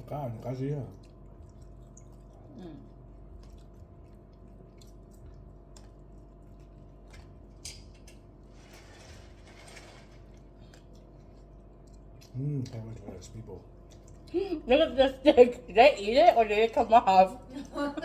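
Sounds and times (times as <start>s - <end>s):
faint chewing: 0.0s - 15.7s
steady low hum: 0.0s - 18.0s.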